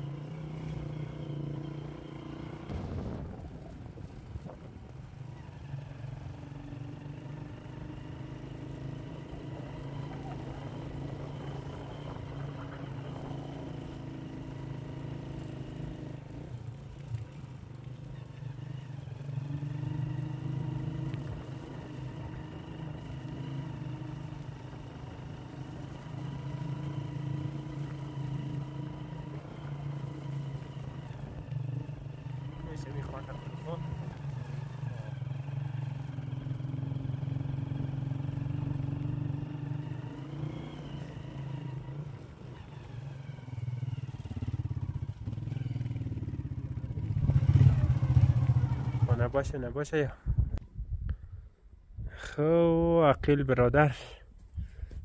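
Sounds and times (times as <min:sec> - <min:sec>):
vehicle engine driving on dirt track: 0:00.0 - 0:55.0.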